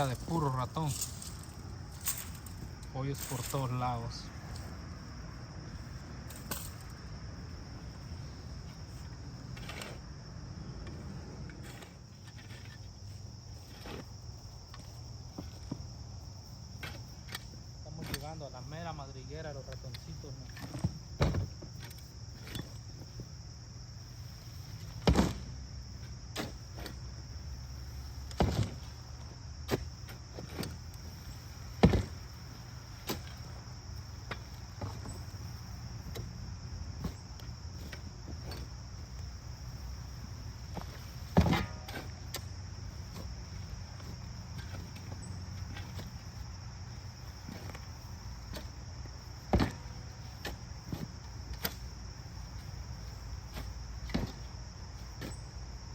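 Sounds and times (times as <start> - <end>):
crickets trilling: 0.0 - 55.9.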